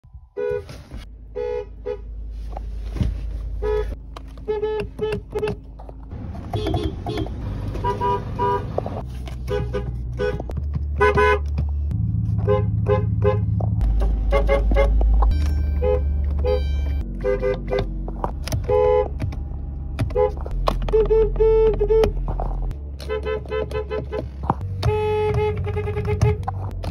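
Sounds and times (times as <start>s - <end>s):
car engine idling hum: 0.1s - 26.9s
car horns tooting: 0.3s - 2.2s, 3.5s - 5.6s, 6.4s - 11.7s, 12.3s - 19.4s, 20.0s - 26.9s.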